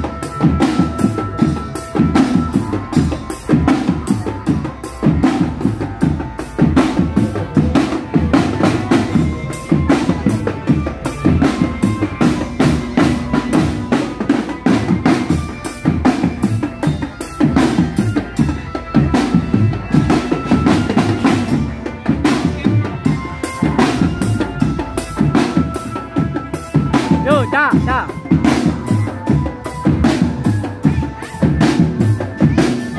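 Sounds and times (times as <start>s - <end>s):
bass drums: 0.0s - 32.9s
snare drums: 0.0s - 32.9s.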